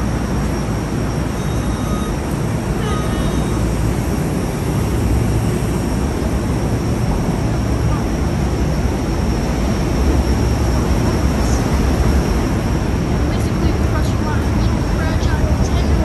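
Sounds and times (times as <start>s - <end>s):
faint high whine: 0.0s - 15.9s
train rumble: 0.0s - 16.0s.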